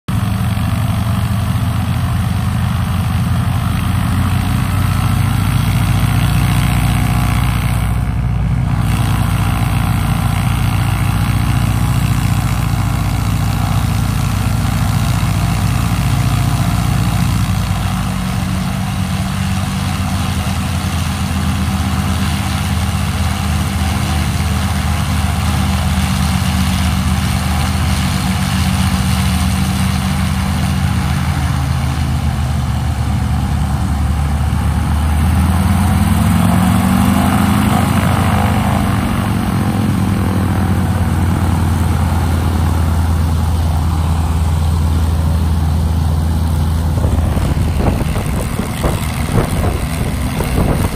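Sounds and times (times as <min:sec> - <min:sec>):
radial aircraft engine idling: 0:00.1 - 0:50.9.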